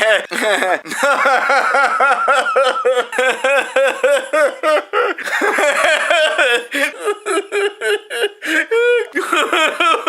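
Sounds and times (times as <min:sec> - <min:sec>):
person laughing: 0:00.0 - 0:10.0.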